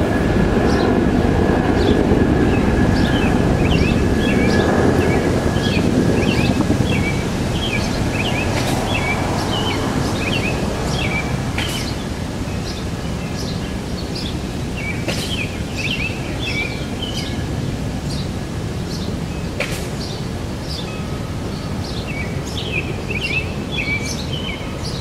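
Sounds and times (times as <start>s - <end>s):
steady low noise: 0.0s - 21.8s.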